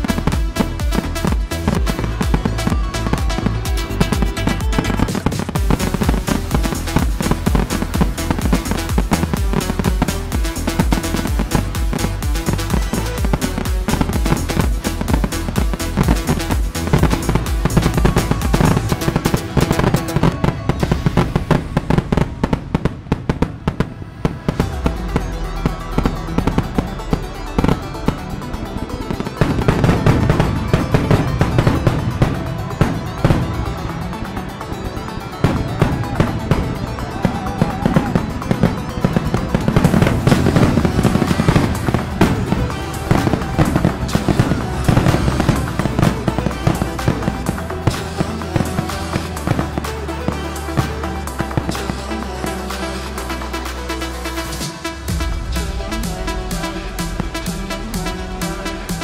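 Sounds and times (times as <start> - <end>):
fireworks bursting and crackling: 0.0 - 59.0
music playing: 0.0 - 59.0.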